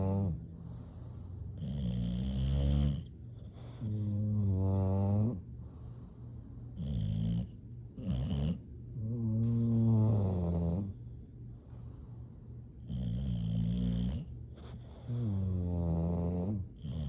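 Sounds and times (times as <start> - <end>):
dog snoring: 0.0 - 11.1, 11.7 - 17.0
dog breathing: 0.0 - 17.0.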